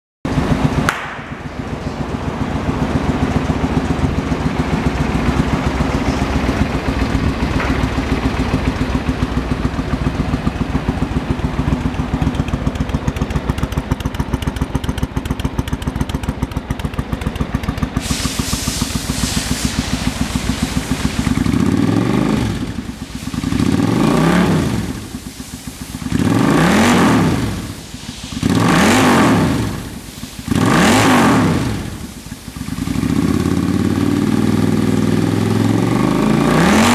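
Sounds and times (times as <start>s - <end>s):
motorcycle engine idling and revving: 0.3s - 36.9s.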